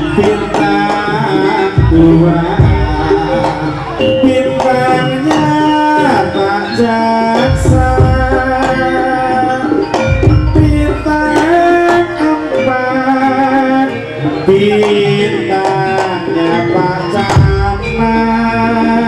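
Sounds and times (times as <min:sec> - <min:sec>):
hand drums: 0:00.0 - 0:19.0
held melody line: 0:00.0 - 0:19.0.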